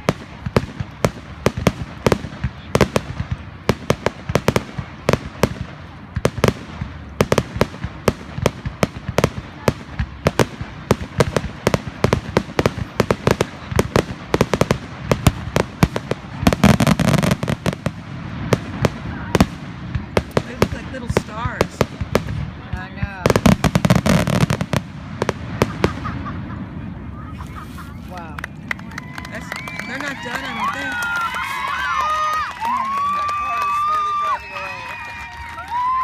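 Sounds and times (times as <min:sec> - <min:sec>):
fireworks bangs: 0:00.0 - 0:36.0
fireworks crackling: 0:00.0 - 0:36.0.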